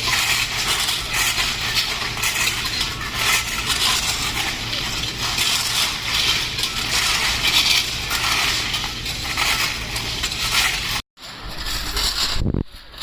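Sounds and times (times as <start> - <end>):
gritty crunching and scraping: 0.0 - 13.0.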